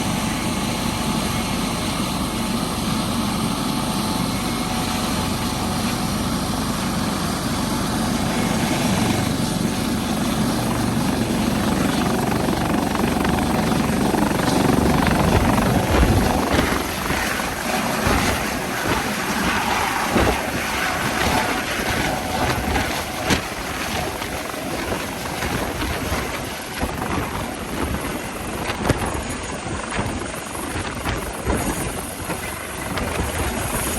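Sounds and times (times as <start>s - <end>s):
helicopter engine and rotor: 0.0s - 33.9s.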